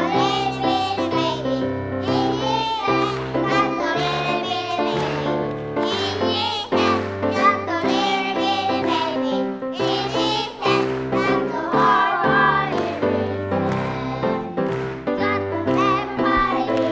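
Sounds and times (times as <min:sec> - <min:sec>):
backing music: 0:00.0 - 0:16.9
children singing: 0:00.0 - 0:16.9.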